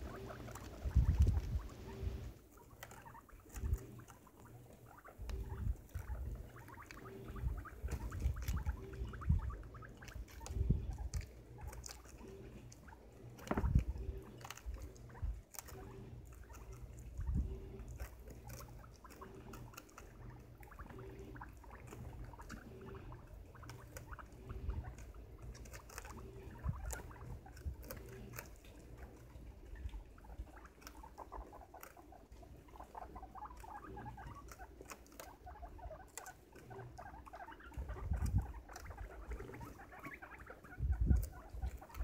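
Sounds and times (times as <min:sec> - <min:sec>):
guinea pigs crunching vegetable: 0:00.0 - 0:42.0.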